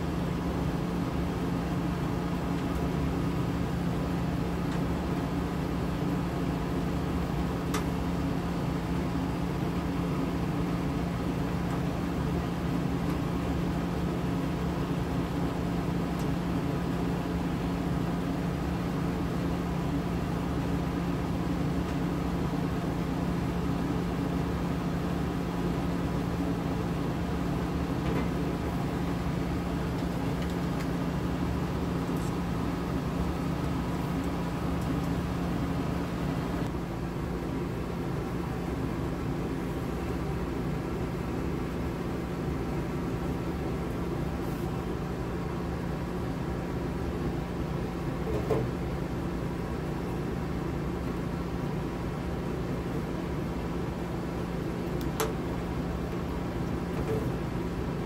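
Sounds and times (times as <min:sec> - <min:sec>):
mechanical hum: 0:00.0 - 0:58.0.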